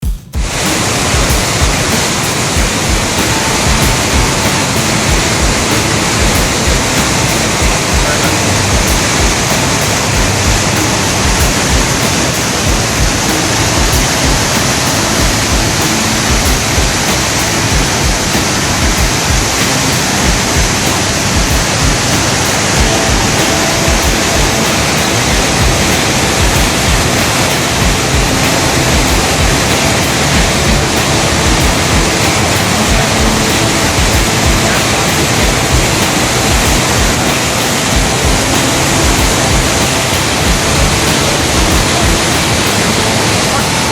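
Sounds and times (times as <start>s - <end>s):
waterfall roaring: 0.2s - 43.9s.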